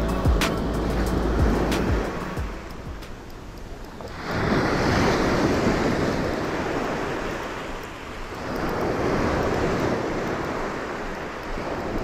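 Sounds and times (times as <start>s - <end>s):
surf waves washing up beach: 0.0s - 12.0s.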